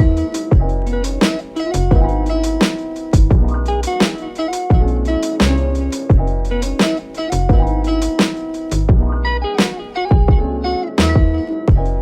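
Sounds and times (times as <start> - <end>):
guitar over drum beat and bass: 0.0 - 12.0.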